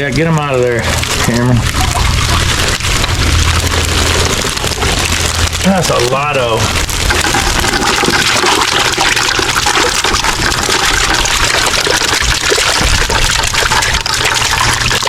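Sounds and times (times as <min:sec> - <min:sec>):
water streaming and splashing: 0:00.0 - 0:15.0.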